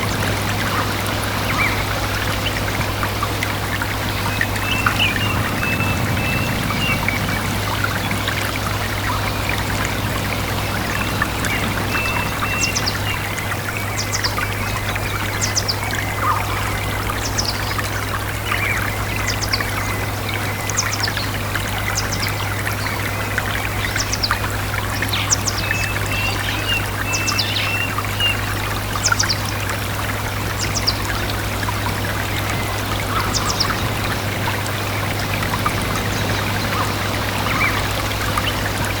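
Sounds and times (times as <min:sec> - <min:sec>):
birds chirping: 0:00.0 - 0:39.0
stream running: 0:00.0 - 0:39.0.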